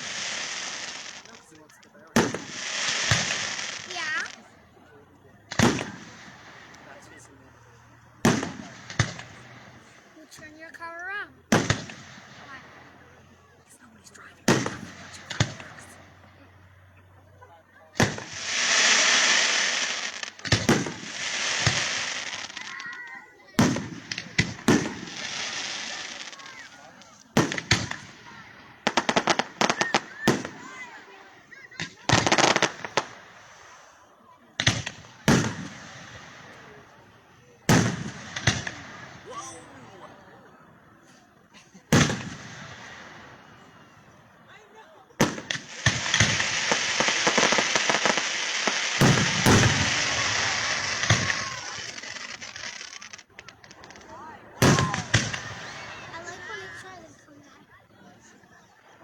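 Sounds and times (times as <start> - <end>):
sharp firework cracks: 0.0 - 4.6, 5.2 - 10.4, 11.4 - 13.3, 14.2 - 16.3, 18.0 - 34.0, 34.6 - 39.6, 41.9 - 43.6, 45.2 - 57.0
fireworks bangs: 0.0 - 57.3
crackling hiss of fireworks: 0.0 - 59.0.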